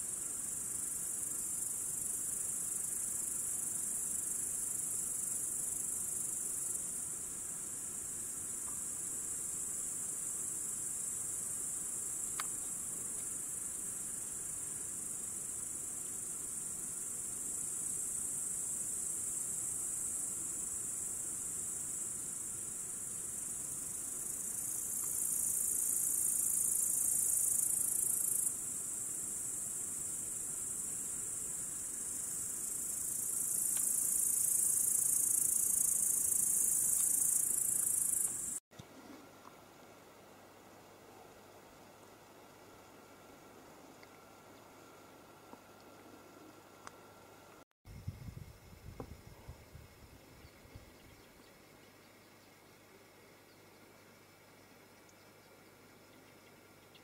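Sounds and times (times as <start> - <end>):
crickets chirping: 0.0 - 38.6, 39.9 - 57.0.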